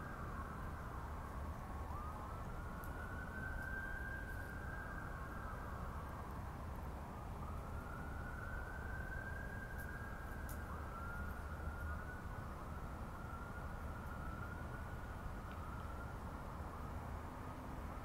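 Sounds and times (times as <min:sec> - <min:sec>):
siren wailing: 0:00.0 - 0:17.6.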